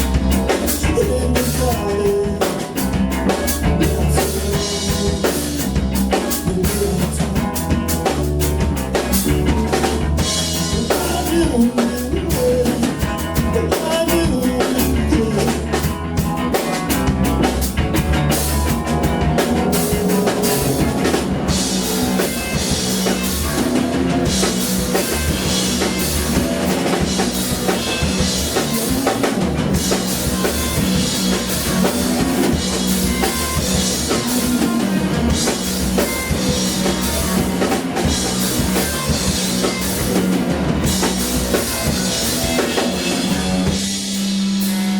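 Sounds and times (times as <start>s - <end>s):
drum kit: 0.0s - 44.9s
heavy bass: 0.0s - 44.9s
live rock band playing: 0.0s - 44.9s.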